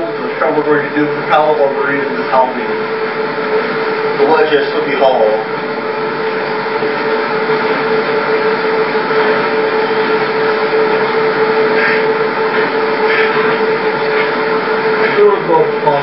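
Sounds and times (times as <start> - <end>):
mid-pitched hum: 0.0 - 16.0.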